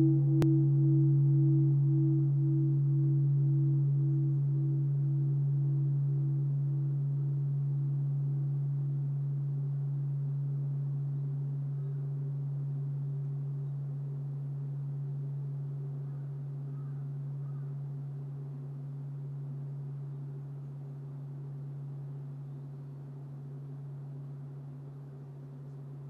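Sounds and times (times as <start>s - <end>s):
large temple bell humming: 0.0s - 26.0s.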